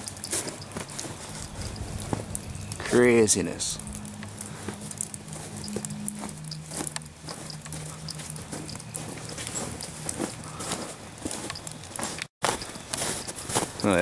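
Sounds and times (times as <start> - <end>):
water dripping from icicles: 0.0 - 12.3.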